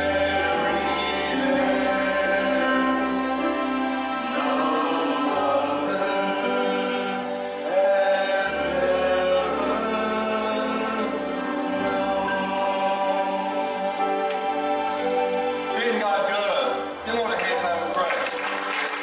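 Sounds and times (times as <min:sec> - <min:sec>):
group of voices singing: 0:00.0 - 0:15.7.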